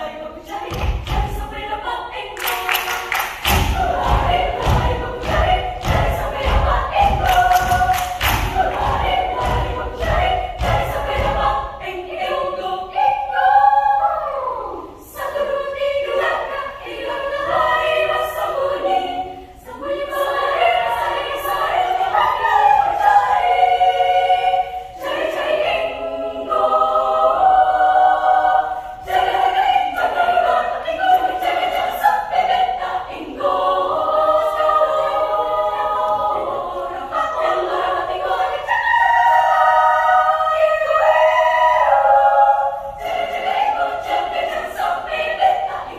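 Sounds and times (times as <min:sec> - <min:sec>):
children's choir singing: 0:00.0 - 0:45.9.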